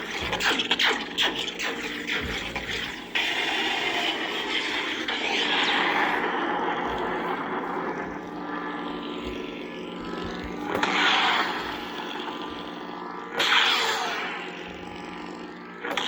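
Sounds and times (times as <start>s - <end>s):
lightsaber electric hum: 0.0s - 16.0s.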